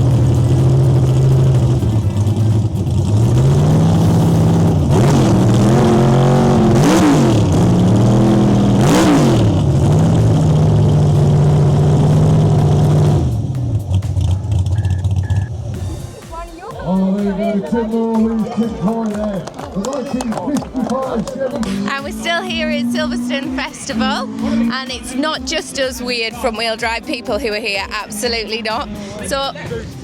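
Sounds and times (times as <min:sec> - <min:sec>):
race car engine revving: 0:00.0 - 0:16.0, 0:18.8 - 0:30.0.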